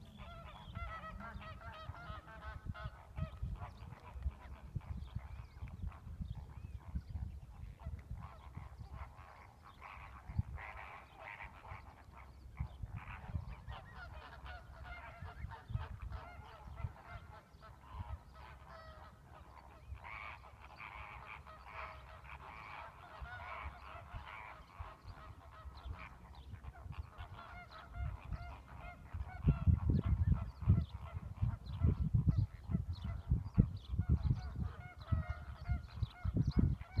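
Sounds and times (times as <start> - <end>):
distant waterbirds calling: 0.0 - 6.0, 6.6 - 31.8
wind buffeting microphone: 0.0 - 37.0.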